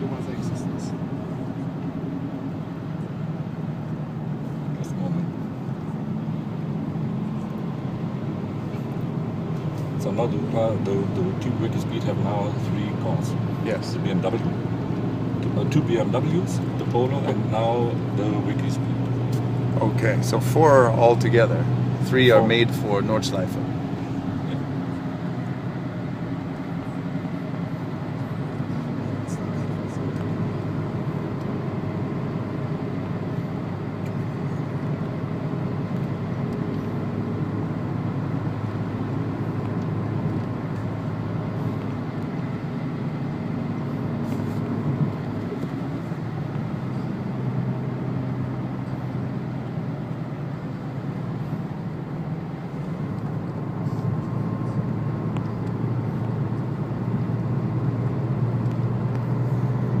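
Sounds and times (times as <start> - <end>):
diesel engine running in car cabin: 0.0 - 60.0
tyre and road noise: 0.0 - 60.0.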